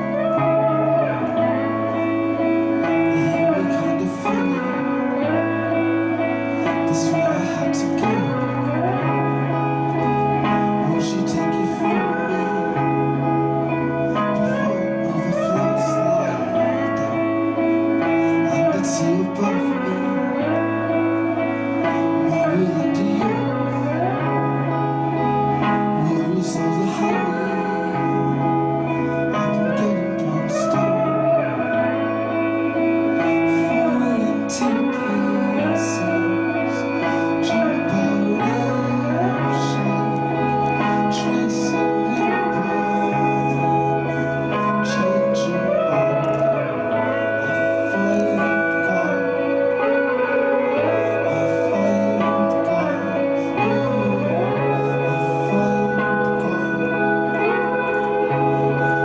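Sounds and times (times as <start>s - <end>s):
gliding instrumental lines: 0.0s - 59.0s.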